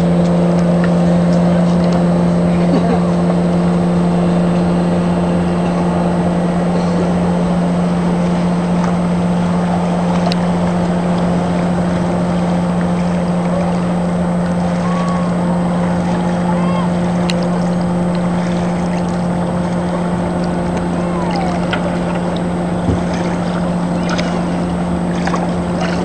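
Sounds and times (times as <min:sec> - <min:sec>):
boat wash and water: 0:00.0 - 0:26.0
outboard motor droning: 0:00.0 - 0:26.0.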